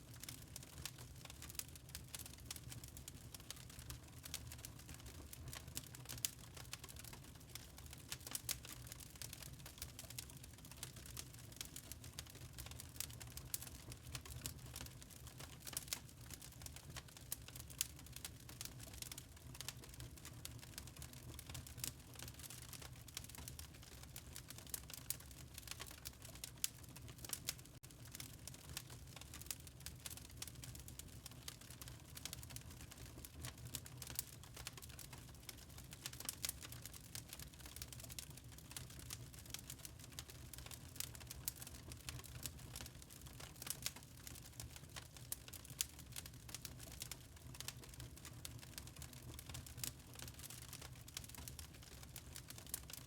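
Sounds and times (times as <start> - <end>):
log fire crackling: 0.0 - 53.0
low rumble of flames: 0.2 - 53.0.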